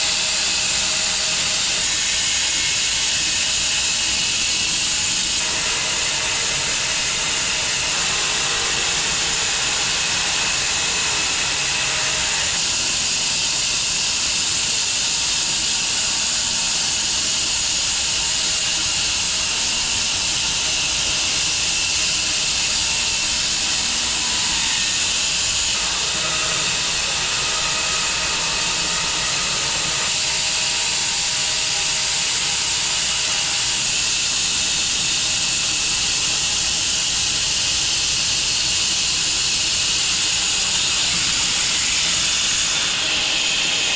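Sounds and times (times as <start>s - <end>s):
bandsaw mill running: 0.0s - 43.9s.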